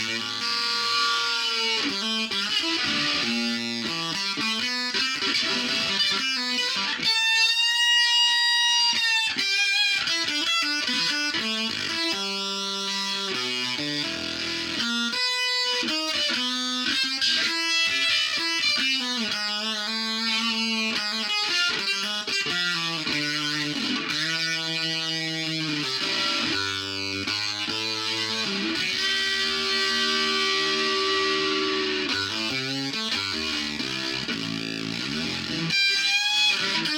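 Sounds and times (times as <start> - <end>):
electric guitar with octave effect: 0.0 - 36.9.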